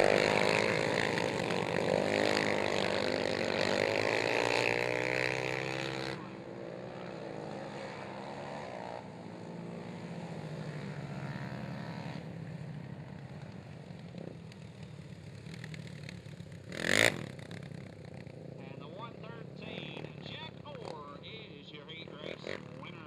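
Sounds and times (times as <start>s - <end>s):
quad engines revving: 0.0s - 23.0s.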